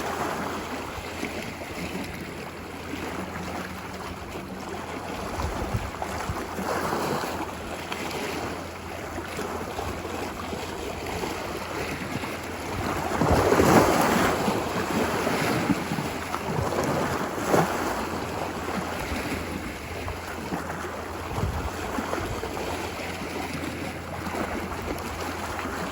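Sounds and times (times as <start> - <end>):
ocean waves breaking: 0.0 - 25.9.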